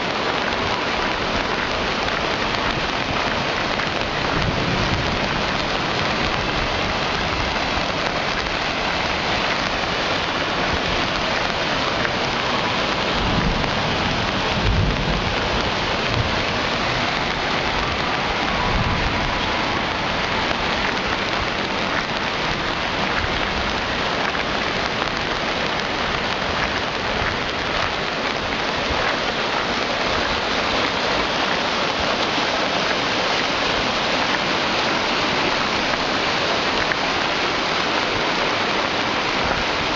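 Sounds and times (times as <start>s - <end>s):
heavy rain pouring: 0.0s - 39.9s
storm water running off: 0.0s - 39.9s.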